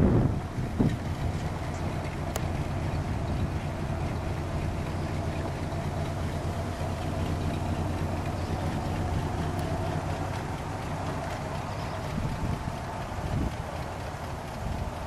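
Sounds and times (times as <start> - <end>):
car engine humming at low speed: 0.0 - 15.0.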